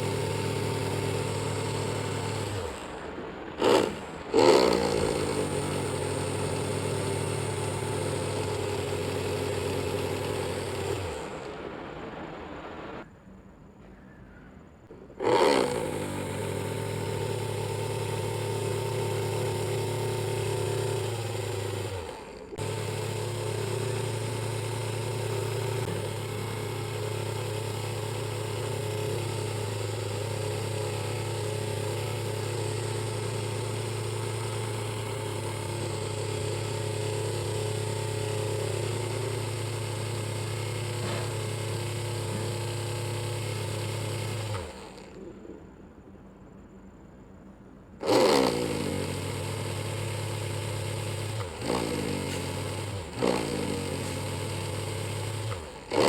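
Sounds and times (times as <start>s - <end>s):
small motor humming: 0.0s - 13.1s, 14.9s - 45.7s, 48.0s - 56.0s.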